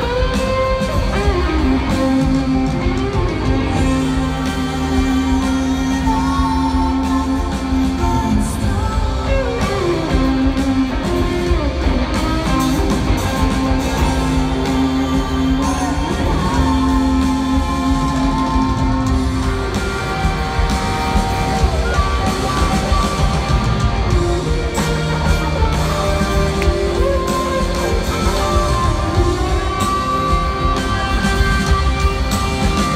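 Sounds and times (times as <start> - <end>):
guitars: 0.0 - 32.9
live rock band: 0.0 - 32.9
person singing: 0.0 - 32.9.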